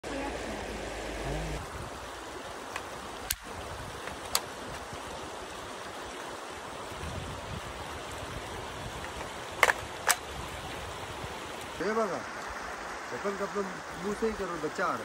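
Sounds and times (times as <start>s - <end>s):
shallow river rushing: 0.0s - 15.0s.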